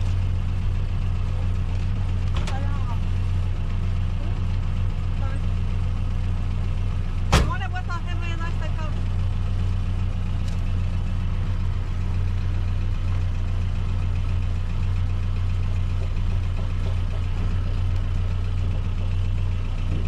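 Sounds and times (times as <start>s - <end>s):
pickup truck engine idling: 0.0s - 20.0s.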